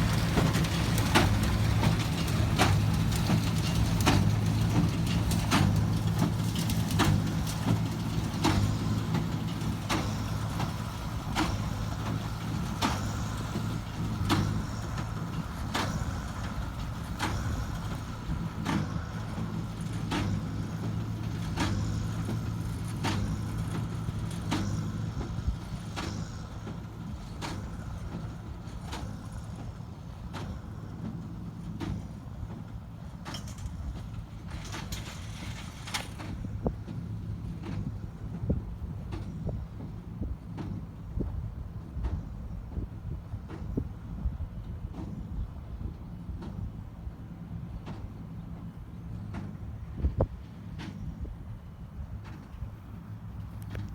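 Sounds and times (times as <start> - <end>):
hay baler knocking: 0.0 - 53.9
tractor engine running: 0.0 - 53.9.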